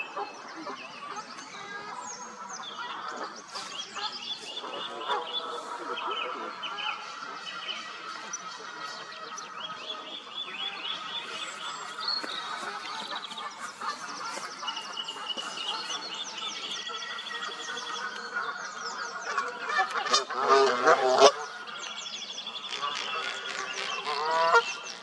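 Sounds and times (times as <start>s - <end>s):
songbirds trilling: 0.0s - 25.0s
waterbirds calling: 0.0s - 25.0s.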